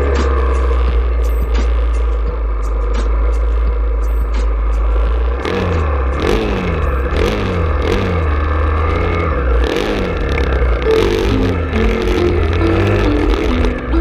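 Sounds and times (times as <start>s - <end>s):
electronic music with heavy bass: 0.0s - 14.0s.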